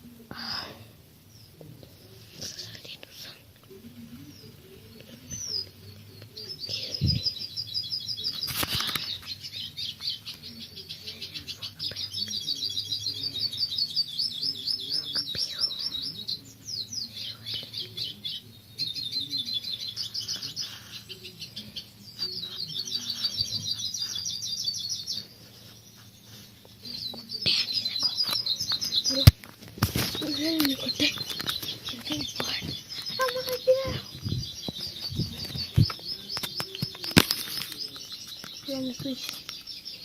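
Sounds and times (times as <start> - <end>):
birds singing high trills: 5.3 - 40.0.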